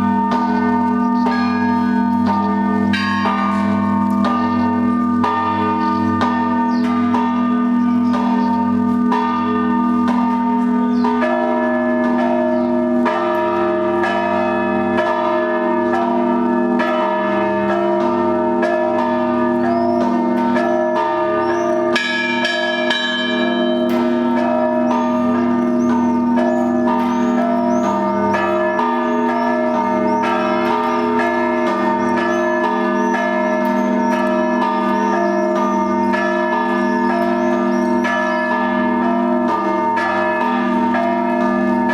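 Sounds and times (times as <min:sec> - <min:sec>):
hum of large bells: 0:00.0 - 0:41.9
small bells ringing quickly: 0:00.0 - 0:41.9.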